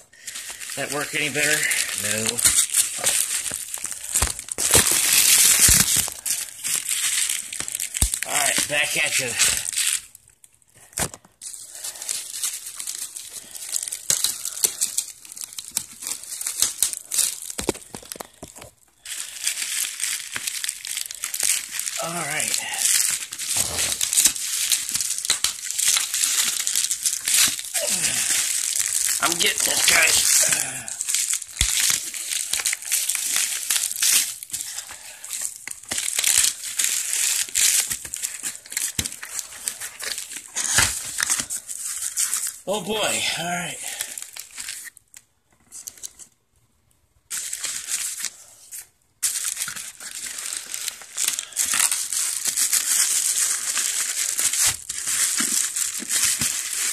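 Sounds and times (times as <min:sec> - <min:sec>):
bubble wrap crinkling: 0:00.1 - 0:46.6, 0:47.2 - 0:56.9
plastic tearing: 0:00.2 - 0:43.1, 0:43.9 - 0:46.3, 0:47.3 - 0:56.9.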